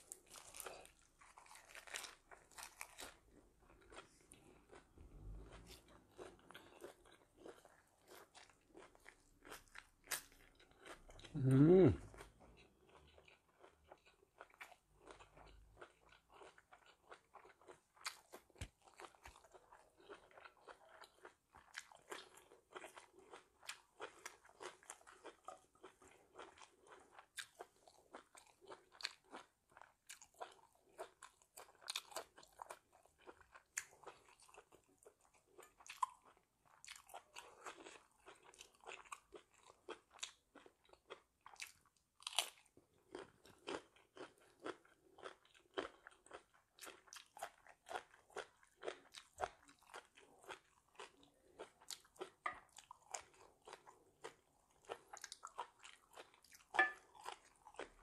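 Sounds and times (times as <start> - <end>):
person chewing crisp vegetables: 0.0 - 58.0.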